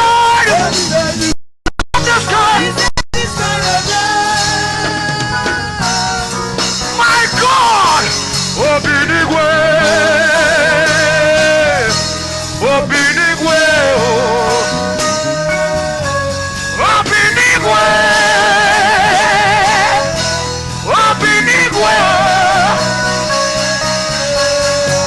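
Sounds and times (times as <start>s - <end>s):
gospel worship music: 0.0s - 1.4s, 2.0s - 25.0s
bass and band backing: 0.0s - 25.0s.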